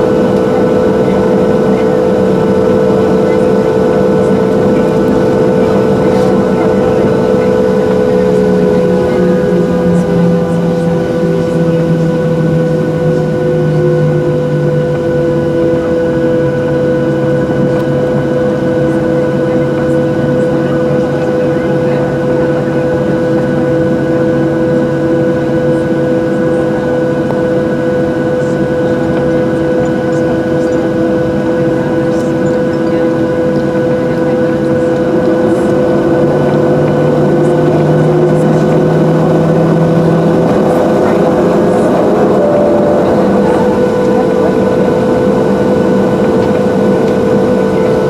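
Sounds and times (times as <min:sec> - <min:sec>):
jet engines humming and whining: 0:00.0 - 0:48.0.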